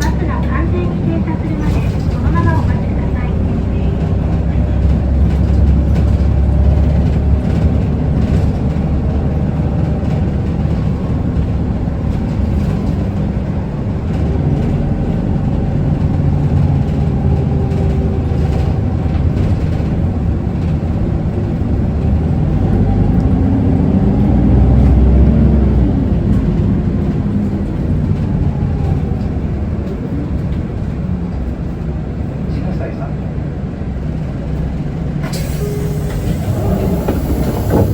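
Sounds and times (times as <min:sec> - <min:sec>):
bus diesel engine running: 0:00.0 - 0:37.9.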